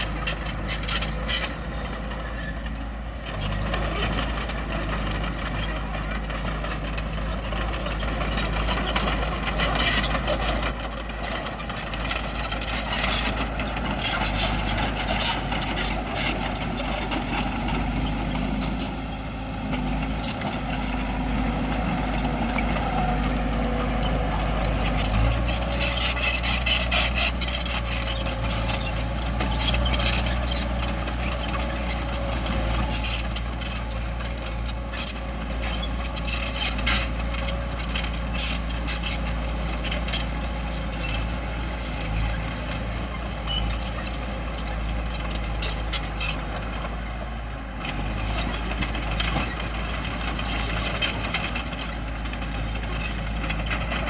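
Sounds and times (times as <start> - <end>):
metallic clanks and scrapes: 0.0 - 47.0
bulldozer diesel engine: 0.0 - 54.0.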